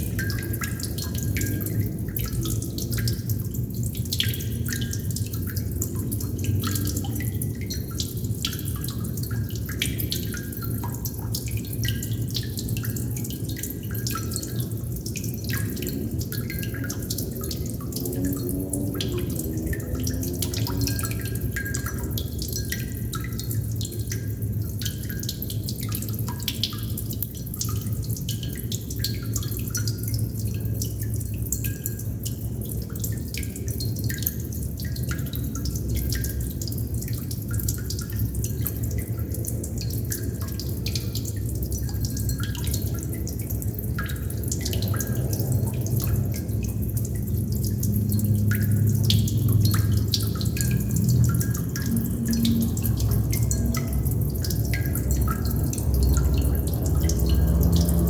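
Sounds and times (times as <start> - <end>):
water droplets dripping: 0.0 - 58.0.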